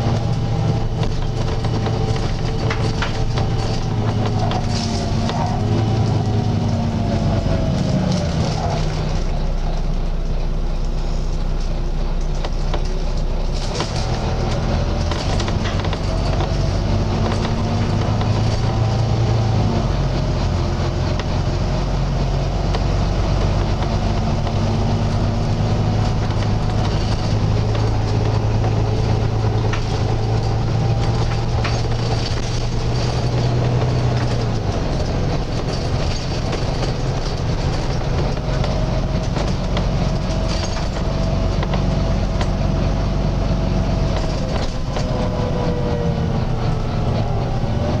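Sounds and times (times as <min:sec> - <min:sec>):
bus diesel engine humming: 0:00.0 - 0:48.0.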